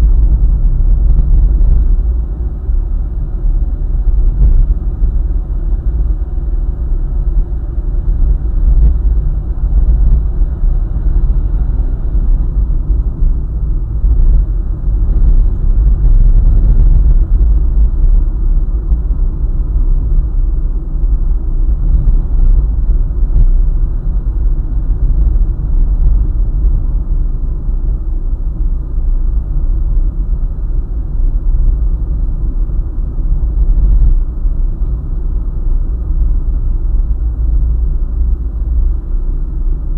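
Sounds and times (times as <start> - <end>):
vehicle driving on highway: 0.0 - 39.9.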